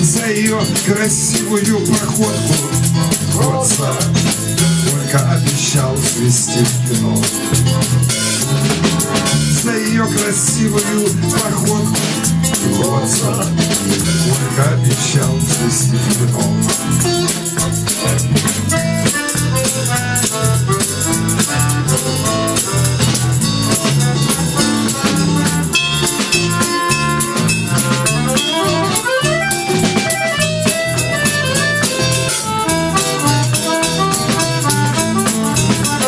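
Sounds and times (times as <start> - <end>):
accordion: 0.0 - 36.0
acoustic guitar: 0.0 - 36.0
drum kit: 0.0 - 36.0
electric guitar: 0.0 - 36.0.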